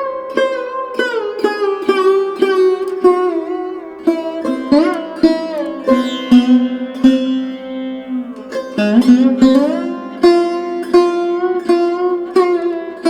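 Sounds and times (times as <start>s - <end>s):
plucked string instrument bending notes: 0.0s - 13.0s.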